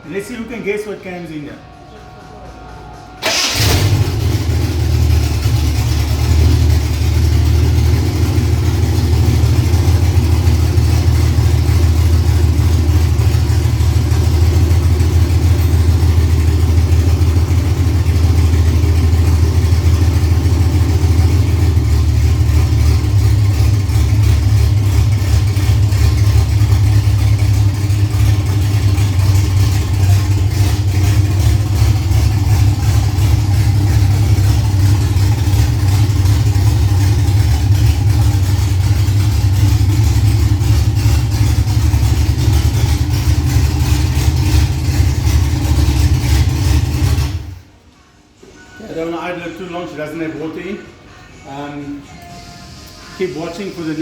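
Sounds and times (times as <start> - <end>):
car engine idling: 1.6 - 47.8.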